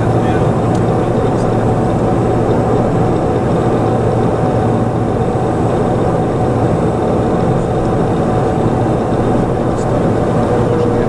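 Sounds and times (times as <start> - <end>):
low hum: 0.0 - 11.0
turboprop cockpit drone: 0.0 - 11.0.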